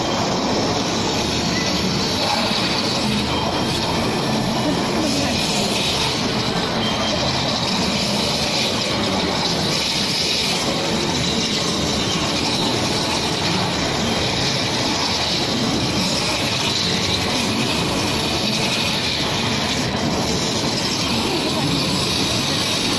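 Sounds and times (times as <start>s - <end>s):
waterjet cutter hissing: 0.0s - 22.9s.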